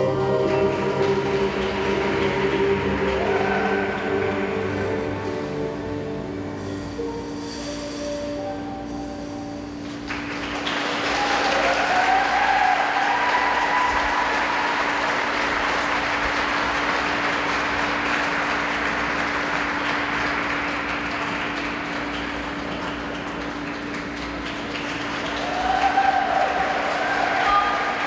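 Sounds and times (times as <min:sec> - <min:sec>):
spectators cheering: 0:00.0 - 0:05.1, 0:10.2 - 0:28.0
spectators applauding: 0:00.0 - 0:05.4, 0:09.8 - 0:28.0.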